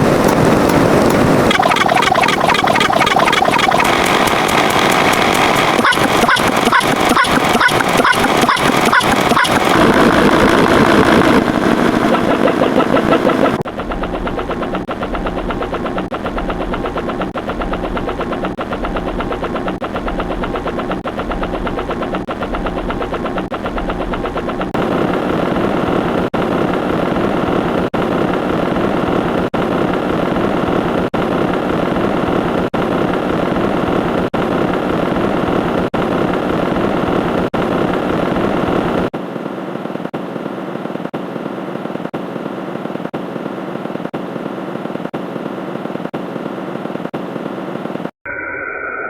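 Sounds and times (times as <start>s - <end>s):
engine-like running sound: 0.0s - 48.2s.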